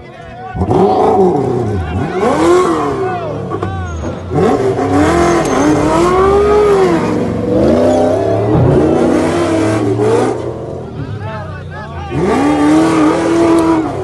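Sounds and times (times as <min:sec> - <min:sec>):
car engine revving hard: 0:00.6 - 0:11.1, 0:12.0 - 0:14.0.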